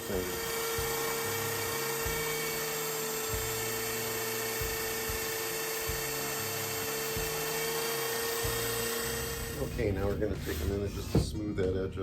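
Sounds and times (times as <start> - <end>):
power tool whining: 0.0 - 11.3
low background music: 0.0 - 12.0.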